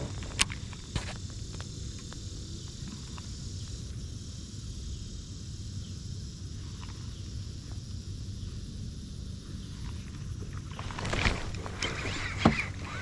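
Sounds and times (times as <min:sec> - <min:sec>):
insect chorus buzzing: 0:00.0 - 0:13.0
low steady rumble: 0:00.0 - 0:13.0.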